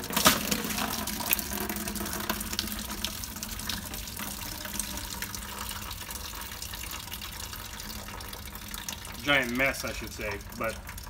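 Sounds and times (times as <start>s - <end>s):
water splashing into metal bucket: 0.0s - 11.0s.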